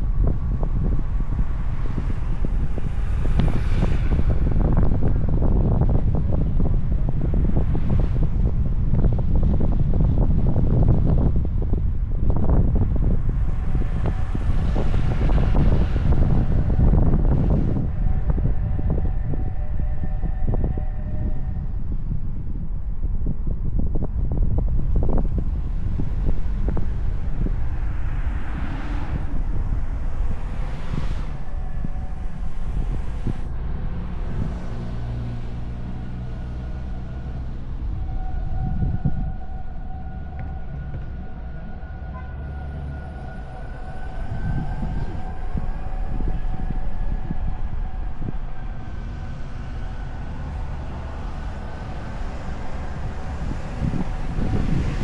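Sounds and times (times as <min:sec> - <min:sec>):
tyre and wind noise: 0:00.0 - 0:55.0.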